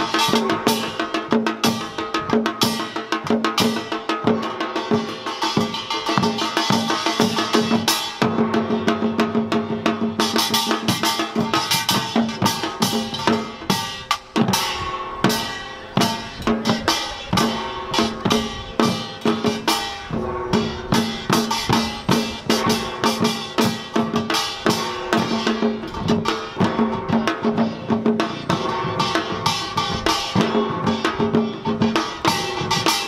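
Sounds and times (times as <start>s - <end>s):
drum strokes: 0.0s - 33.0s.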